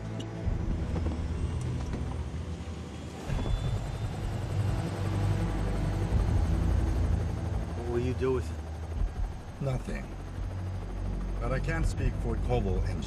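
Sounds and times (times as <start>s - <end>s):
helicopter rotor chop: 0.4s - 13.0s.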